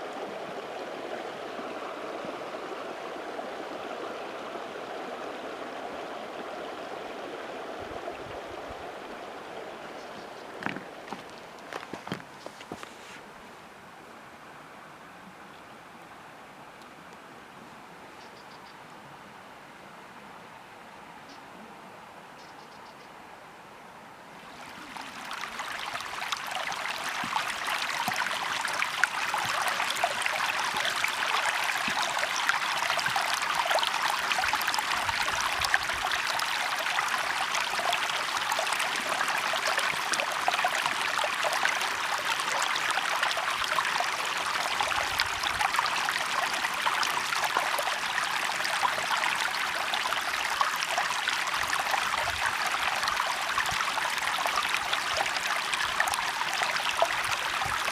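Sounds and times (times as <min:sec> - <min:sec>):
water flowing in a stream: 0:00.0 - 0:57.9.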